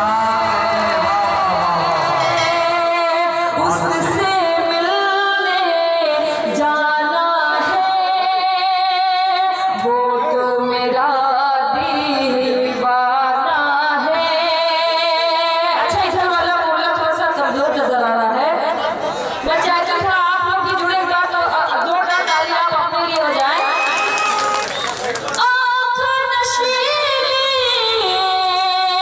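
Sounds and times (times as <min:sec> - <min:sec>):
woman singing into a microphone: 0:02.4 - 0:23.6, 0:25.4 - 0:29.0.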